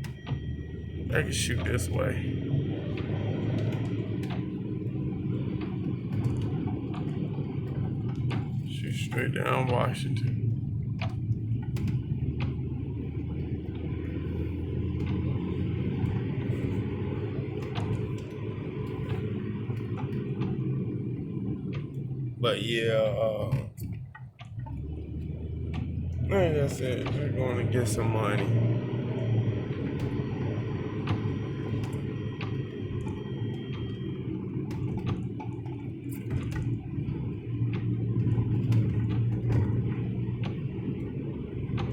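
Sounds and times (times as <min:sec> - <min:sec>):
irregular clicks and ticks: 0:00.0 - 0:02.1, 0:02.7 - 0:22.4, 0:23.4 - 0:41.9
car engine and road noise: 0:00.0 - 0:41.9.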